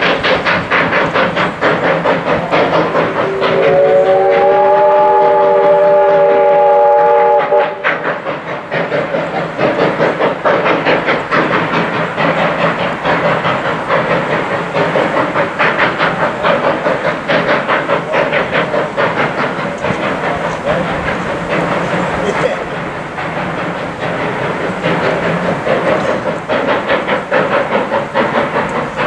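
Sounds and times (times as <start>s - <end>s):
steam locomotive chuffing: 0.0s - 29.0s
train rumble: 0.0s - 29.0s.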